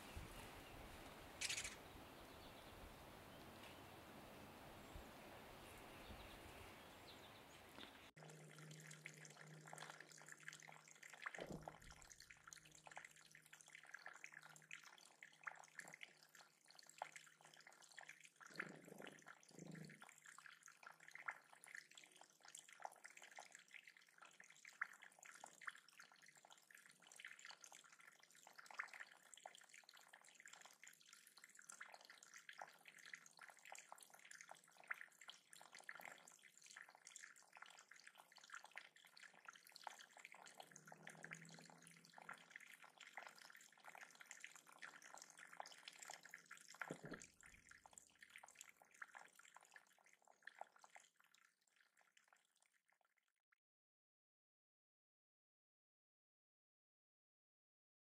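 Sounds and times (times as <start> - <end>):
water trickling into pool: 0.0 - 53.4.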